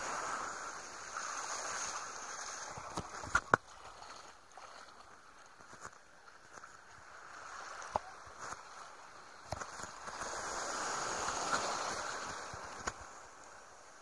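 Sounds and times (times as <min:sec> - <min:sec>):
ocean waves washing ashore: 0:00.0 - 0:05.2, 0:06.8 - 0:14.0.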